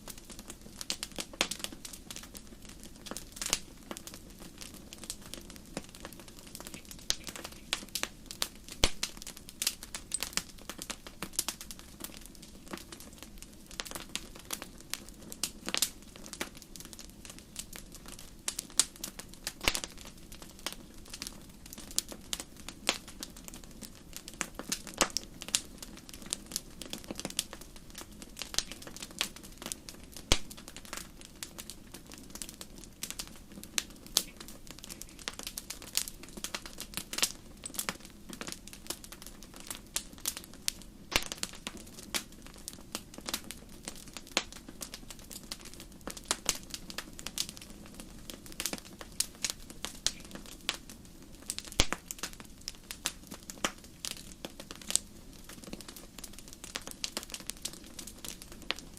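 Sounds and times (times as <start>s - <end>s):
campfire crackling and popping: 0.0s - 58.9s
hiss and rumble of burning: 0.0s - 58.9s.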